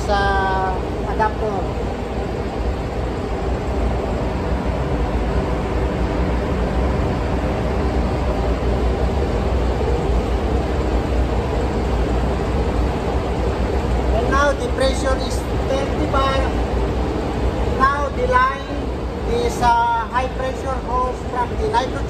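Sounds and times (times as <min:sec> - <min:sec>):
engine room machinery drone: 0:00.0 - 0:22.0.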